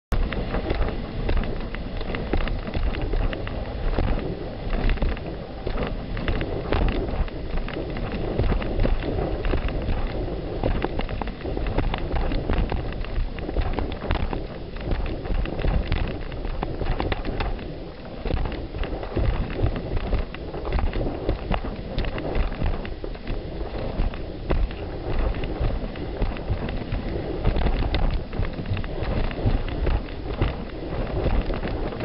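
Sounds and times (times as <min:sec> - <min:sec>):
wind rumbling over microphone: 0:00.1 - 0:32.0
spray hitting board and sail: 0:00.2 - 0:32.0.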